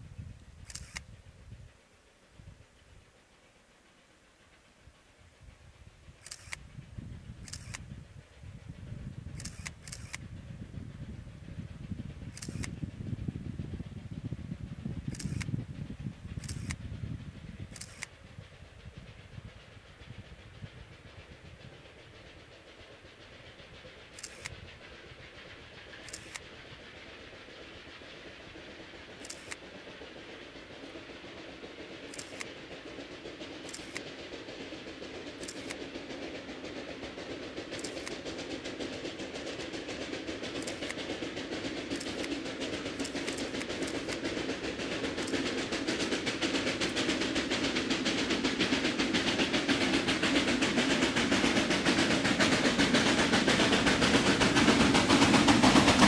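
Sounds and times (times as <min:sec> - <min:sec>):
steam locomotive running: 0:00.0 - 0:56.0.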